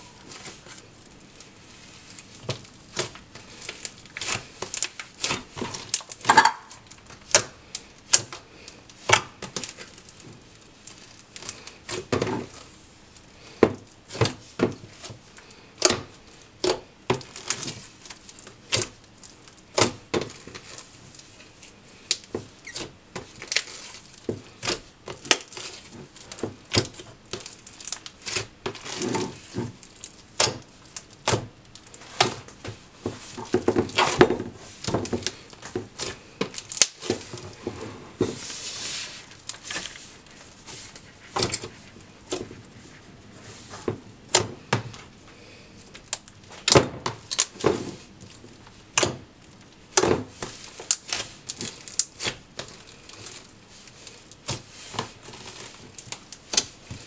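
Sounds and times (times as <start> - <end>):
slime squelching: 0.0 - 57.0.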